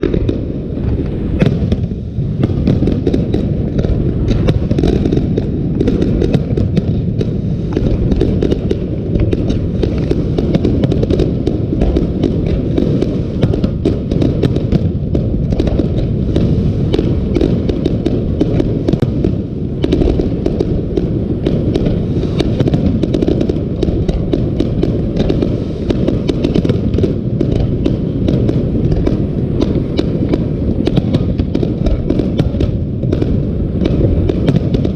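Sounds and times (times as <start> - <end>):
fireworks booming and crackling: 0.0 - 34.9.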